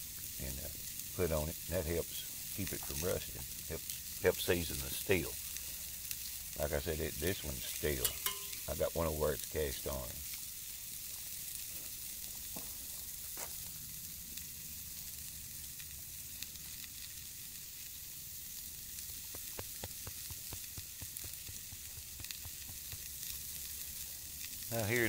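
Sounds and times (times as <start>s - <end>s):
burger patties sizzling on grill: 0.0s - 25.0s
fire popping and crackling: 0.0s - 25.0s.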